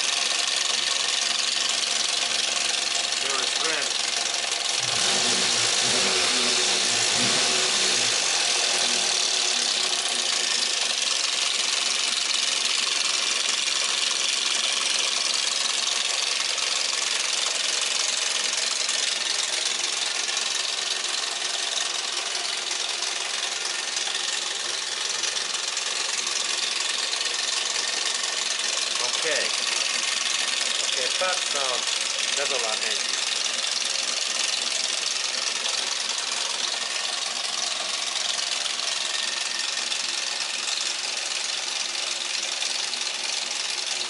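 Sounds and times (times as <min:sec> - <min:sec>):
car engine clattering: 0:00.0 - 0:44.0.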